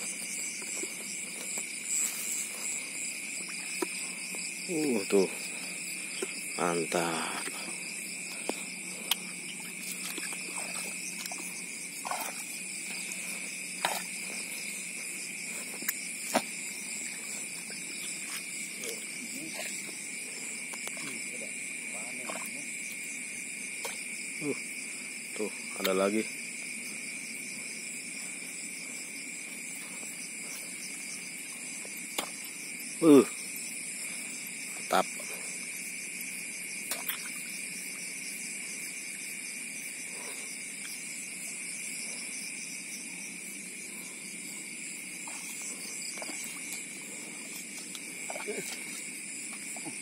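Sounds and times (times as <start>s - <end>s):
higher insect trill: 0.0s - 50.0s
insects trilling: 0.0s - 50.0s.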